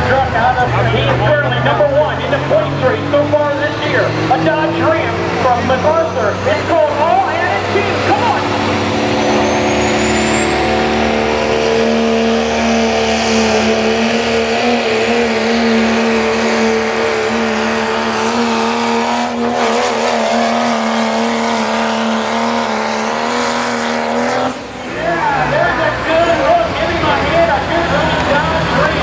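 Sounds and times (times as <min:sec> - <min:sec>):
diesel truck engine at high revs: 0:00.0 - 0:29.0.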